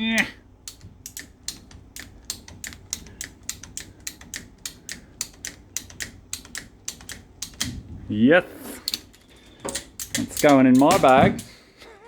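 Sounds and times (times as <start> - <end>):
hand ratchet clicking: 0.0 - 7.9, 8.8 - 11.6.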